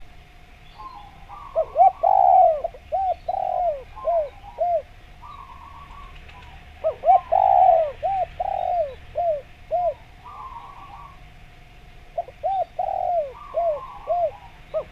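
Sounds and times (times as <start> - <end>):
dove cooing: 0.8 - 14.9.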